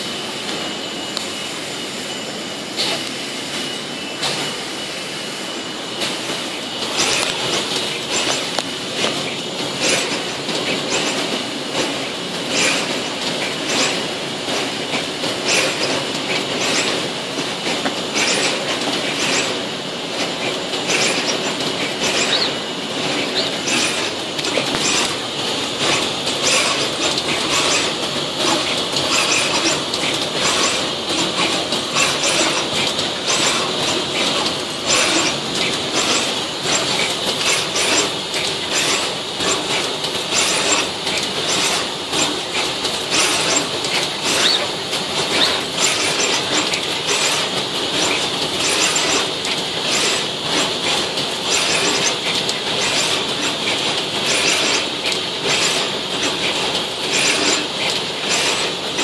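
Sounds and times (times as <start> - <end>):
machine hiss: 0.0 - 59.0
rapid mechanical clicks and clatter: 2.0 - 59.0.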